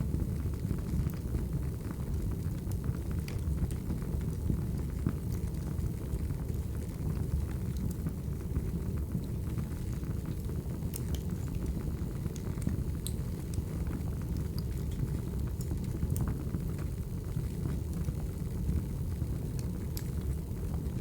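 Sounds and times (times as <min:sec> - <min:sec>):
firewood burning with crackles: 0:00.0 - 0:21.0.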